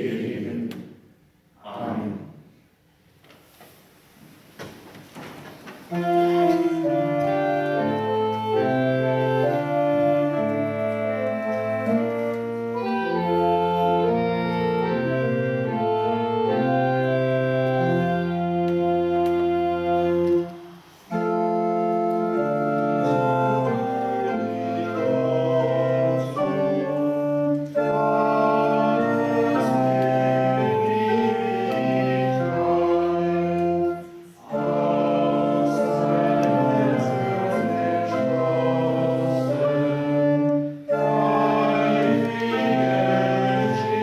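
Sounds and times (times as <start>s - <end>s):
church organ chords: 5.9s - 44.0s.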